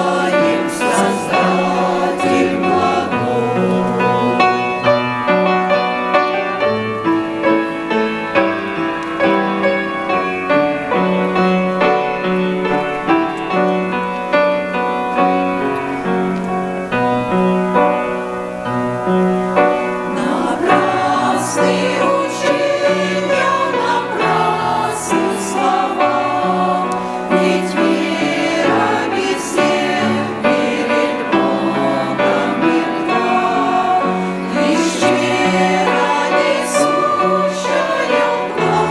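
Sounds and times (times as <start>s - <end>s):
church choir singing a hymn: 0.0s - 38.9s.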